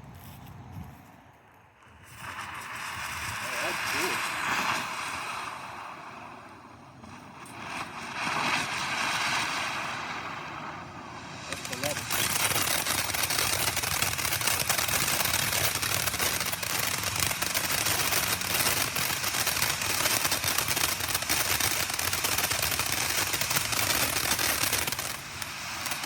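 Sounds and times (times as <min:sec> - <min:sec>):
firework fountain crackling: 0:01.6 - 0:26.0.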